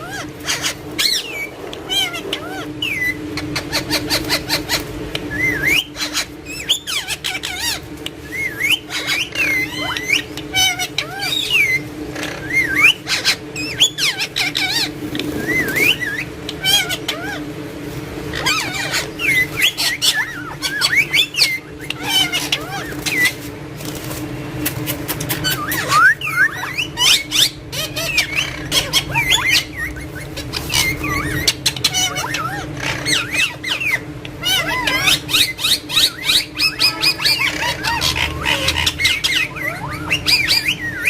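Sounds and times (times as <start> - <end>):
parakeet whistles and squawks: 0.0 - 41.0
steady low hum: 0.0 - 41.0.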